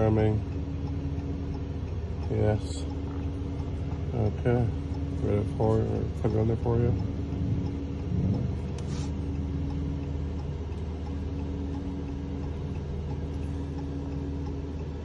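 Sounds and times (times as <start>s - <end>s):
car low hum: 0.0s - 15.0s.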